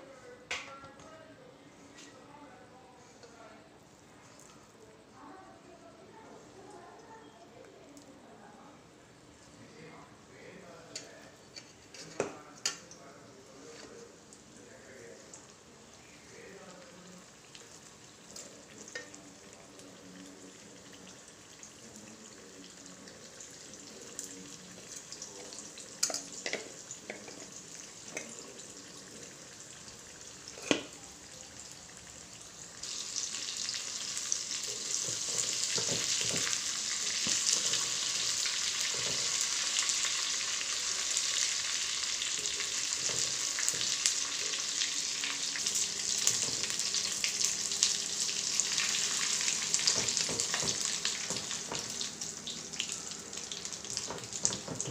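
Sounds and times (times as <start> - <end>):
chicken deep-frying in oil: 4.3 - 54.9.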